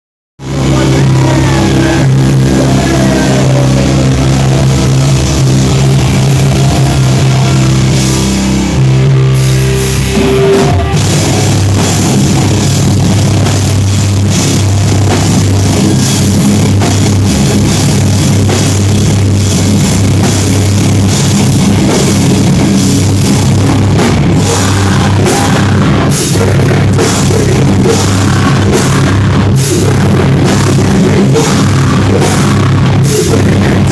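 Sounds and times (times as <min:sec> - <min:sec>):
heavy metal band playing live: 0:00.4 - 0:33.9.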